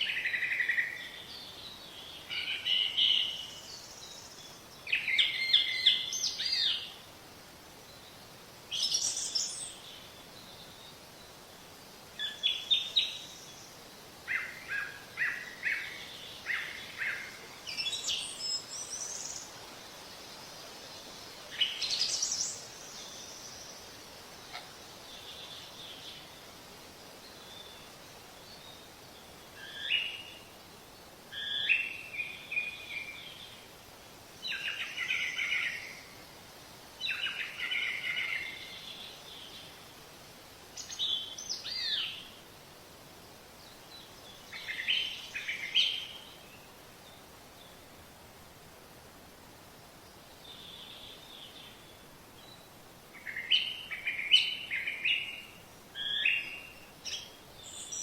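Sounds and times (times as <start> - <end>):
faint steady hiss: 0.0 - 58.0.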